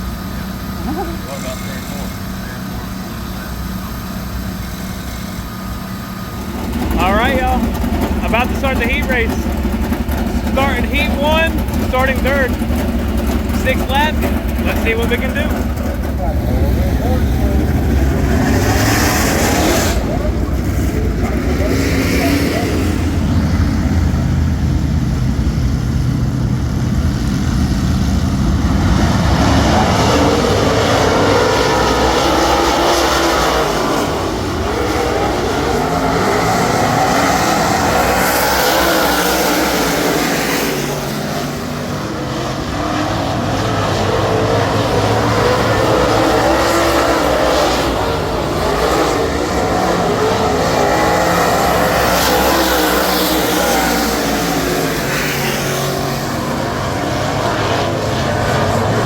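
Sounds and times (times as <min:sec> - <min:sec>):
race car engine droning: 0:00.0 - 0:59.0.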